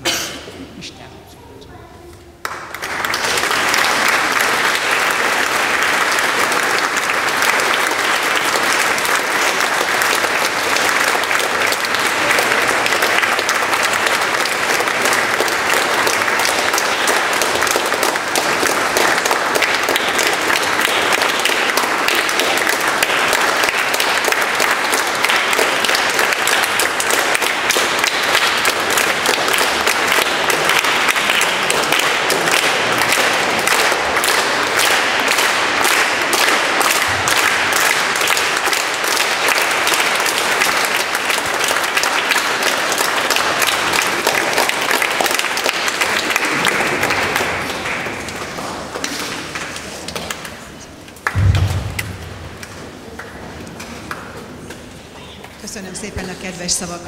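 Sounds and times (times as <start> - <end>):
audience applauding: 2.4 - 55.0.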